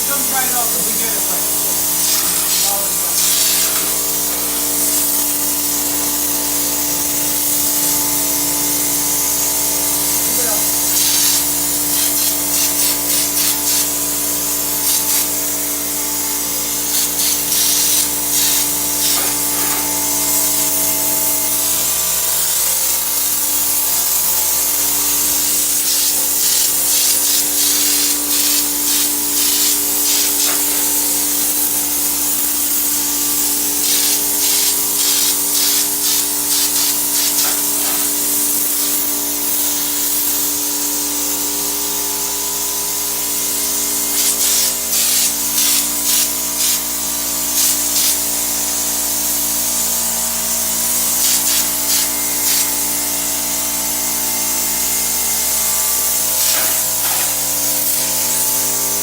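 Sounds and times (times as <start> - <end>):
sprayer motor hum: 0.0 - 40.1, 50.8 - 59.0
hissing air and spray bursts: 0.0 - 50.0, 50.6 - 59.0.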